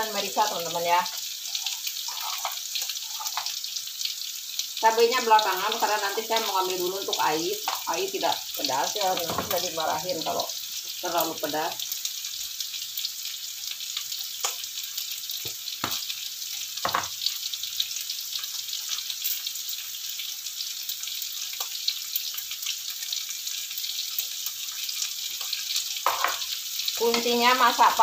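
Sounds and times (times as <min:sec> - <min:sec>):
food sizzling in a wok: 0:00.0 - 0:28.0.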